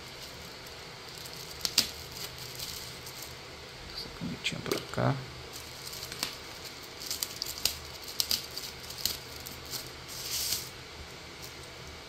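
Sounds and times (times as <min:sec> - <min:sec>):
plastic wrapping crinkling: 0:00.0 - 0:03.4, 0:05.5 - 0:11.8.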